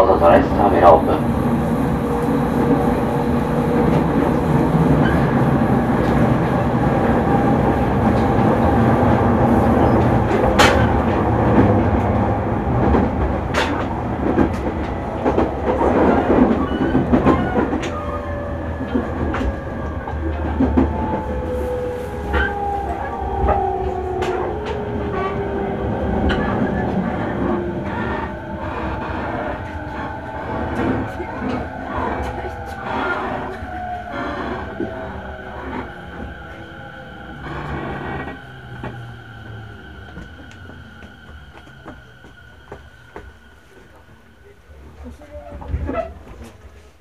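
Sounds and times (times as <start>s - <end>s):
rail-joint clicks: 0.0s - 44.2s
train wheel and track rumble: 0.0s - 47.0s.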